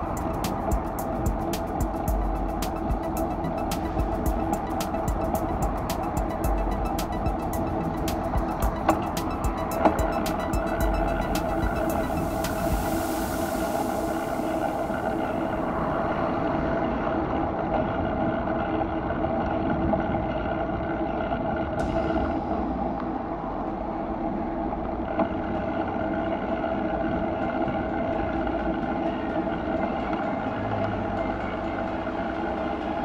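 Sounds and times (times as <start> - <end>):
bicycle rolling hum: 0.0 - 22.2, 23.0 - 33.0
traffic: 0.0 - 33.0.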